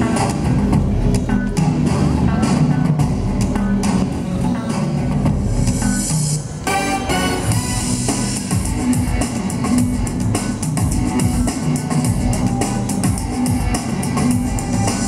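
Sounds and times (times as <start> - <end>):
drum-kit beat: 0.0 - 6.6, 7.4 - 15.0.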